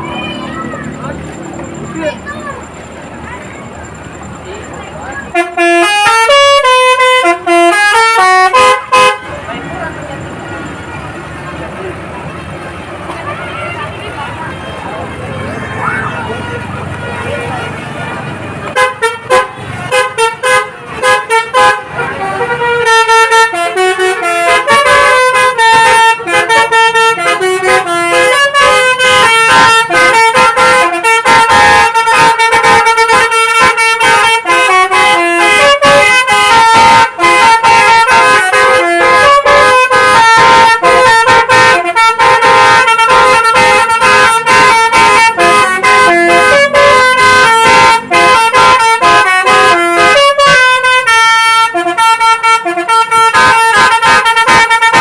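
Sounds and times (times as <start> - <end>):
multi-tone bus horn melody: 0.0 - 55.0.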